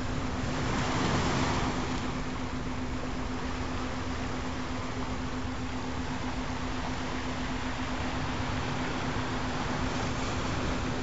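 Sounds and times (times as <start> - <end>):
steady low tone: 1.6 - 11.0.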